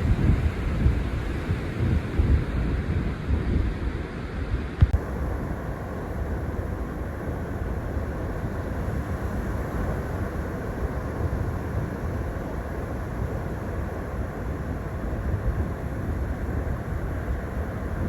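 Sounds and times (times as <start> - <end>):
ocean surf: 0.0 - 18.0
wind on microphone: 0.0 - 18.0.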